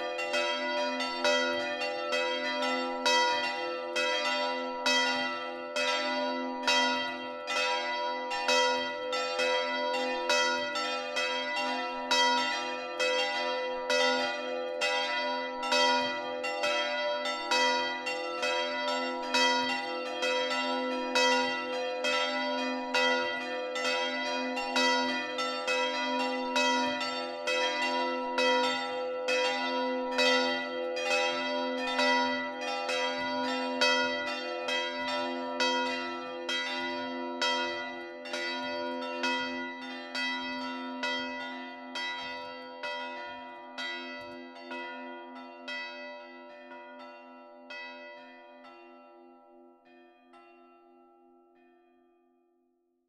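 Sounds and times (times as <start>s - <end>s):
church bells ringing: 0.0s - 52.0s.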